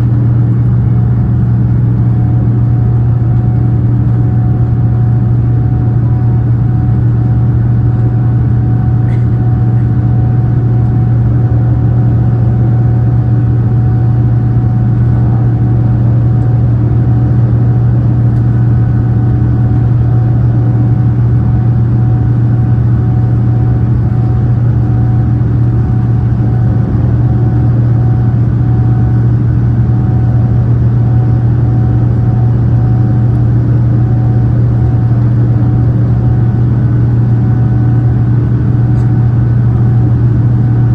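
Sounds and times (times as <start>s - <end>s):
airplane cabin engine rush: 0.0s - 40.9s.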